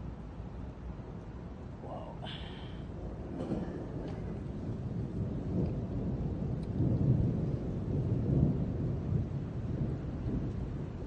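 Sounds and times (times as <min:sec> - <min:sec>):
thunder rumbling: 0:01.0 - 0:11.0.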